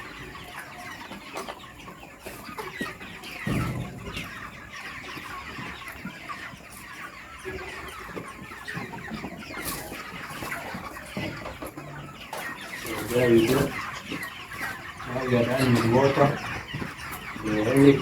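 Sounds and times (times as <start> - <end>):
flock of chickens clucking: 0.0 - 18.0.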